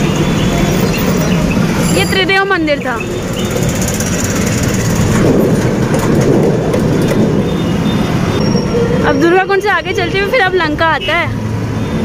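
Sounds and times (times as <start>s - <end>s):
vehicle rumbling along road: 0.0s - 12.0s.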